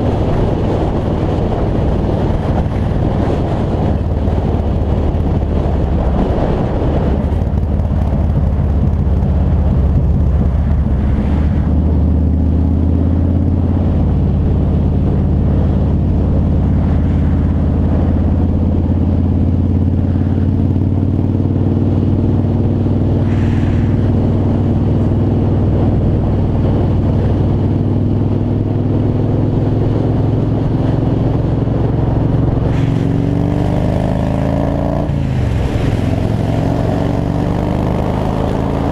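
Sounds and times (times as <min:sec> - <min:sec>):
motorcycle engine cruising: 0:00.0 - 0:38.9
wind and road rush: 0:00.0 - 0:38.9.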